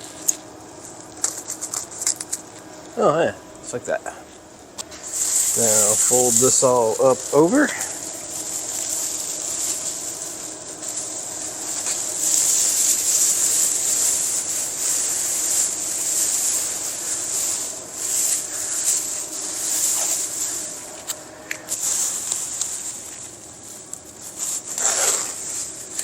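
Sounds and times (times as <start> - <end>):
plastic sheeting crinkling: 0.0 - 26.0
steady hiss: 0.0 - 26.0.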